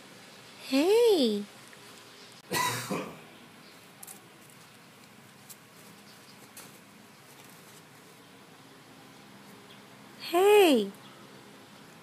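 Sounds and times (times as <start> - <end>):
steady faint hiss: 0.0 - 12.0.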